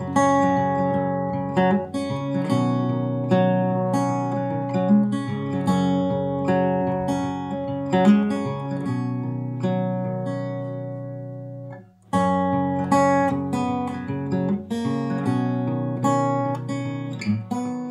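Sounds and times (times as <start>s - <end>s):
strummed acoustic guitar music: 0.0s - 17.9s.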